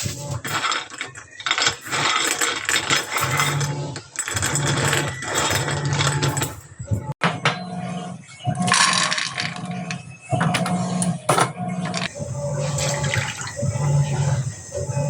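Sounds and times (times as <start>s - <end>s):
utensils and dishes clinking: 0.0s - 7.8s, 8.4s - 15.0s.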